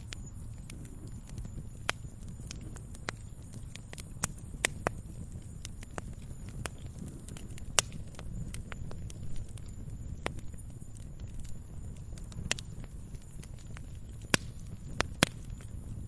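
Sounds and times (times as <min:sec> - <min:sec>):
sharp snaps and pops of fire: 0:00.0 - 0:16.0
wood campfire crackling: 0:00.0 - 0:16.0.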